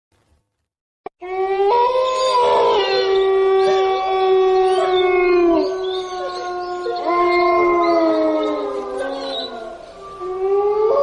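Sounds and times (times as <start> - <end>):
dogs howling together: 1.2 - 11.0.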